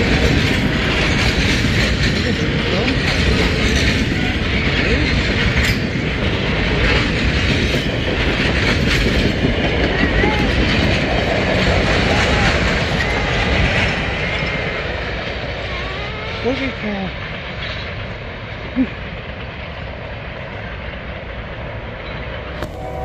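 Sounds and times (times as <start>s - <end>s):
train wheels clattering over rails: 0.0s - 23.0s.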